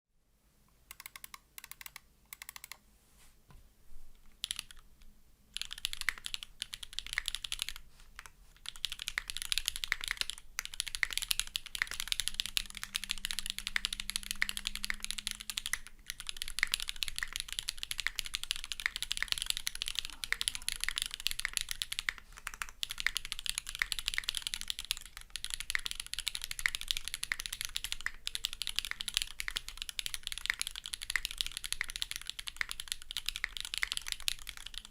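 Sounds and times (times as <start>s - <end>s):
mechanical keyboard typing: 0.9s - 2.8s, 4.4s - 4.9s, 5.5s - 34.9s.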